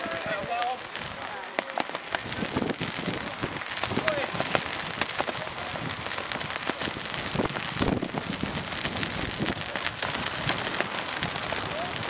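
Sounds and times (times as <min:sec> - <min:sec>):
raindrops ticking near microphone: 0:00.0 - 0:12.0
steady rain: 0:00.0 - 0:12.0.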